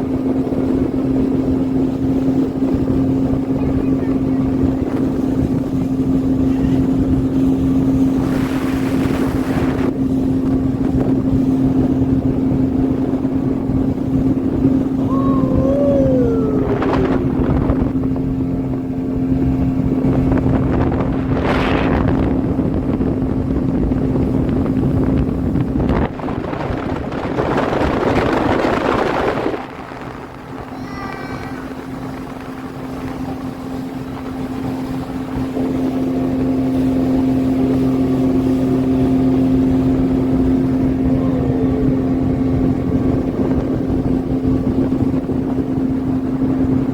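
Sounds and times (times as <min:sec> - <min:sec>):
speedboat engine drone: 0:00.0 - 0:46.9
water and wind rushing: 0:00.0 - 0:46.9.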